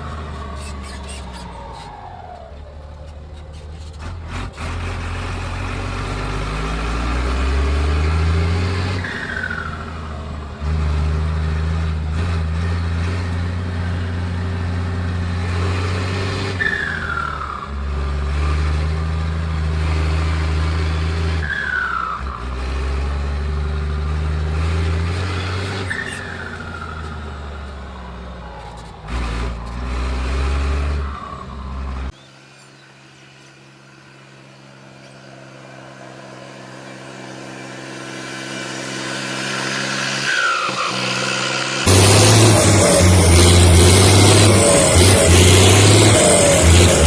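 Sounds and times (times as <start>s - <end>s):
diesel tractor engine pulling: 0.0s - 32.2s, 33.8s - 47.0s.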